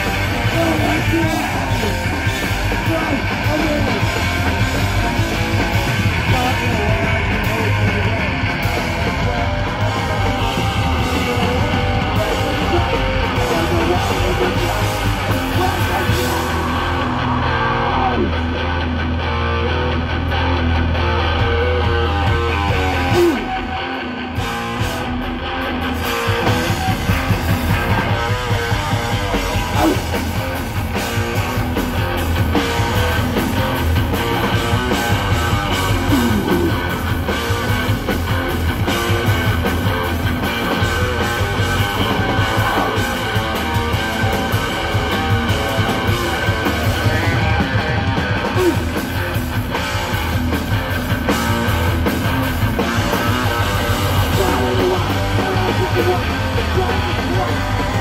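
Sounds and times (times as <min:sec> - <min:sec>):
drums and cymbals: 0:00.0 - 0:18.5, 0:21.5 - 0:58.0
punk band playing live: 0:00.0 - 0:58.0.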